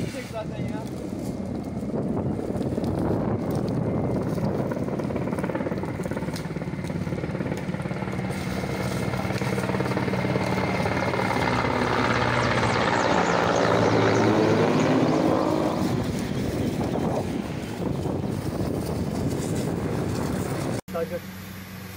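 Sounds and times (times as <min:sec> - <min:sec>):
helicopter flying past: 0:00.0 - 0:21.9.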